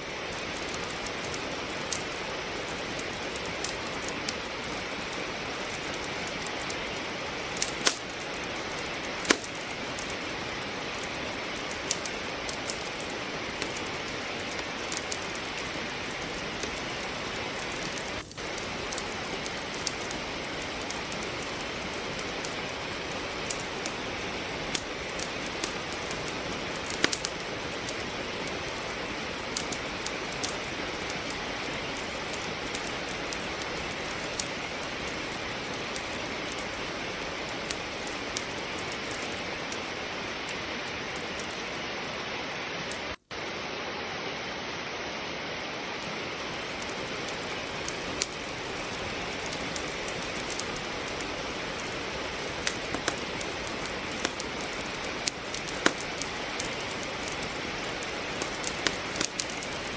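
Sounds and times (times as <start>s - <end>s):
steady rain falling: 0.0s - 59.9s
wood fire crackling: 0.0s - 59.9s.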